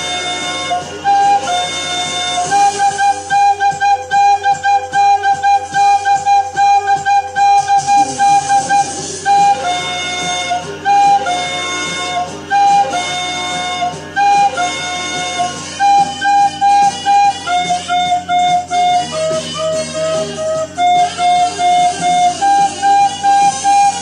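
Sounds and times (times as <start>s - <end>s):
lower accompaniment: 0.0s - 24.0s
recorder playing a melody: 0.0s - 24.0s.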